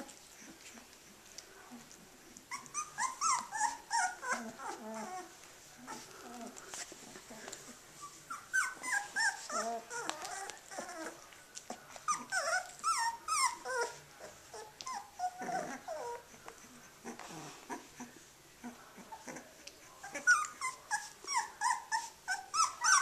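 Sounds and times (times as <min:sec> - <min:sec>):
puppies whimpering and squeaking: 0:00.0 - 0:23.0.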